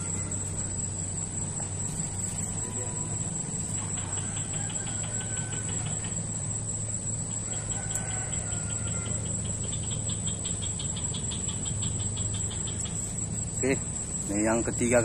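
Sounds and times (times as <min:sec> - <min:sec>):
high-pitched insect whine: 0:00.0 - 0:15.0
low steady hum: 0:00.0 - 0:15.0
rapid pulsing insect chirp: 0:00.0 - 0:15.0.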